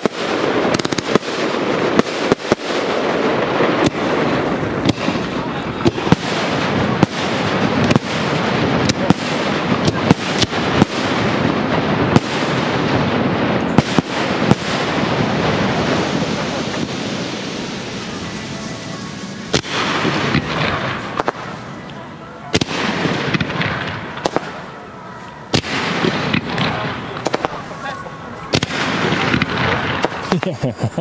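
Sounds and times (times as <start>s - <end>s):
firework crackle: 0.0s - 31.0s.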